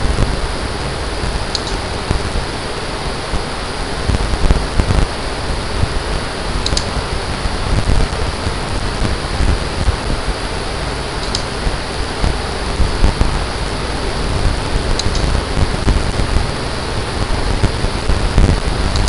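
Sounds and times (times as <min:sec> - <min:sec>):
loud rushing noise: 0:00.0 - 0:19.0
low rumbling: 0:00.0 - 0:19.0.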